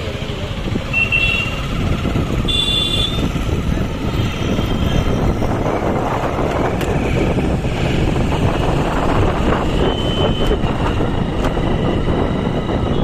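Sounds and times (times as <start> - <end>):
road traffic rumble: 0.0 - 13.0
wind buffeting microphone: 1.6 - 13.0.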